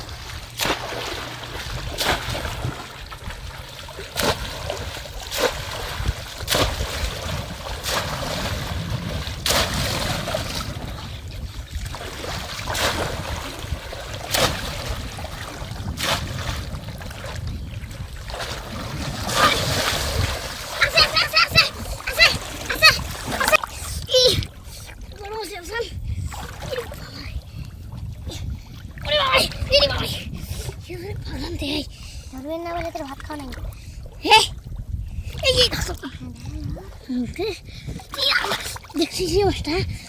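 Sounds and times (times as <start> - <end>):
steady low rumble: 0.0 - 38.2
shallow water splashing: 0.0 - 39.3.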